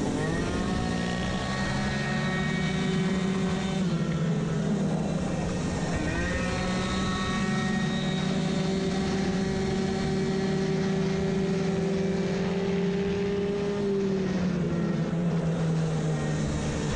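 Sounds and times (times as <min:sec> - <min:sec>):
moped engine at high revs: 0:00.0 - 0:16.9.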